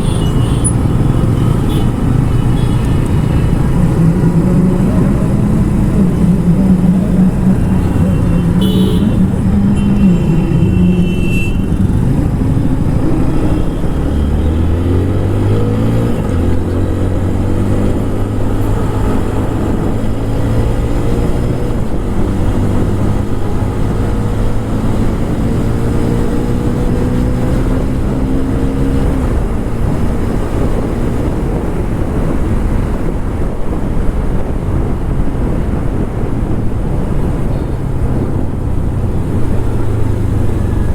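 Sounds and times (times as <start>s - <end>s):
motorcycle engine revving: 0.0s - 33.5s, 36.8s - 40.9s.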